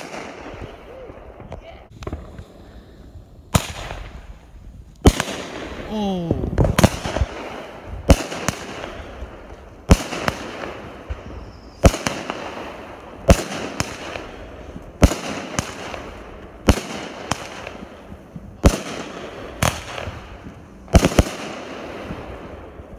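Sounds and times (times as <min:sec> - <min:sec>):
fireworks bangs: 0:00.0 - 0:22.9
fireworks crackling and hiss: 0:00.0 - 0:22.9.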